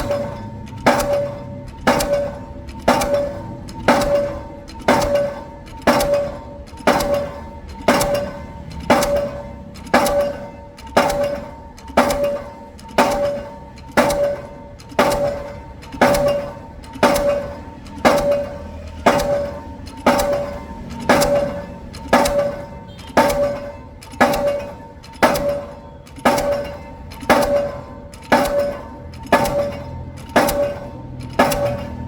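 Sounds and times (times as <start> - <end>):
pile hammer heavy blows: 0.0 - 32.0
short metallic ring: 0.0 - 32.0.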